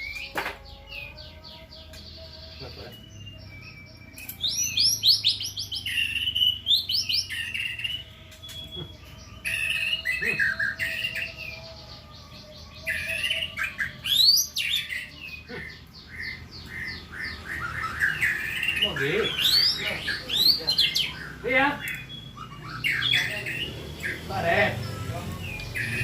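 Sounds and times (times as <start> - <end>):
songbird whistling: 0.0 - 1.2, 2.7 - 12.1, 12.7 - 26.0.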